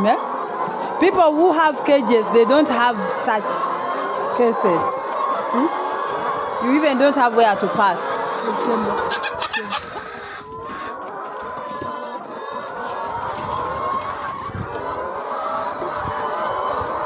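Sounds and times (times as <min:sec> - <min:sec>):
hen drawn-out calls: 0:00.0 - 0:17.0
hens clucking: 0:00.0 - 0:17.0.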